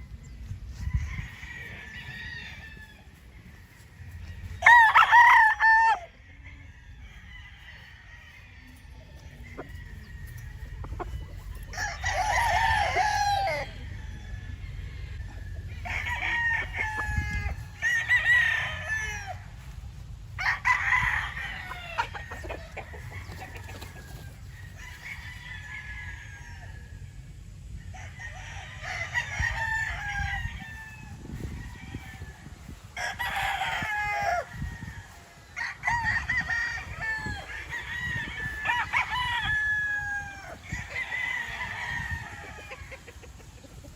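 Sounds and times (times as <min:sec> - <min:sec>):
roosters crowing: 0:00.0 - 0:43.9.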